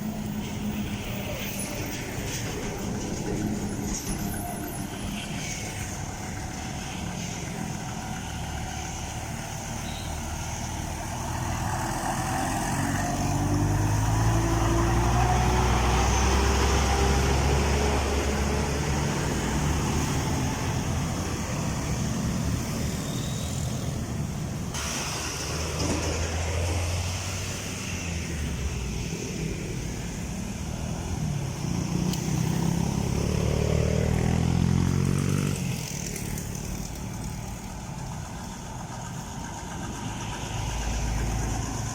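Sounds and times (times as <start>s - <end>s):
truck engines accelerating: 0.0s - 41.9s.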